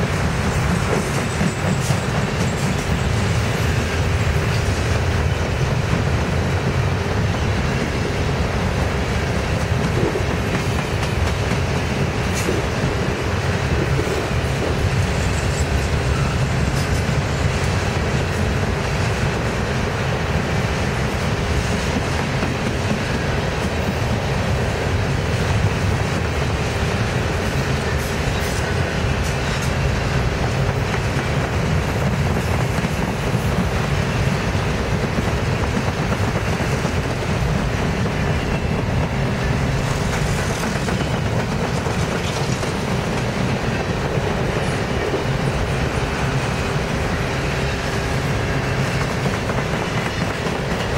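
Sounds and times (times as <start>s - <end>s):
wheels clattering on rail joints: 0.0s - 19.7s, 20.3s - 50.9s
freight train rolling past: 0.0s - 50.9s.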